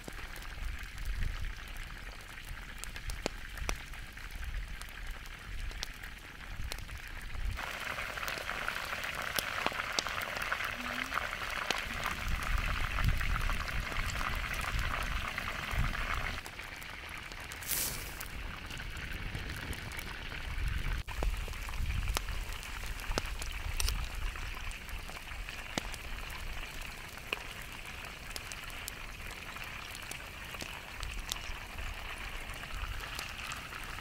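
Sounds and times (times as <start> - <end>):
chicken deep-frying in hot oil: 0.0 - 34.0.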